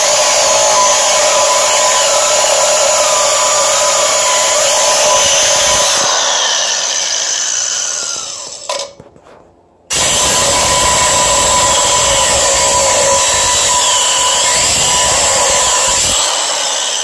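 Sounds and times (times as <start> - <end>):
angle grinder cutting metal: 0.0 - 8.9, 9.9 - 17.0.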